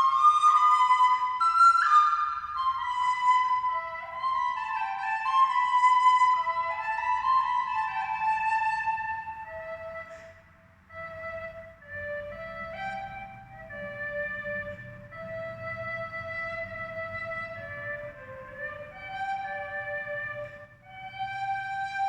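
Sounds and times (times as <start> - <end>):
flute-like melody: 0.0 - 22.0.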